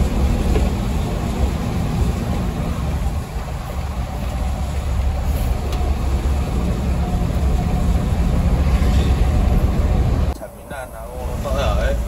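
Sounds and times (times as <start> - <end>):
bus engine drone: 0.0 - 12.0
road and tyre noise: 0.0 - 12.0.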